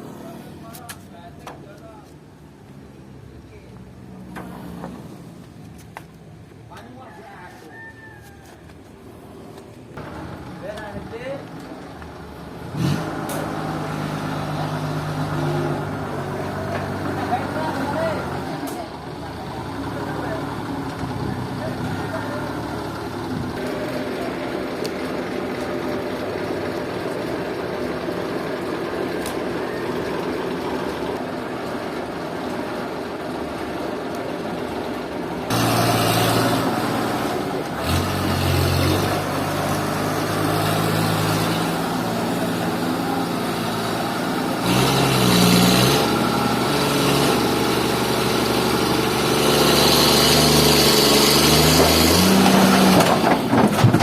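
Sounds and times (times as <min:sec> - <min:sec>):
sawmill engine running: 0:10.0 - 0:54.0.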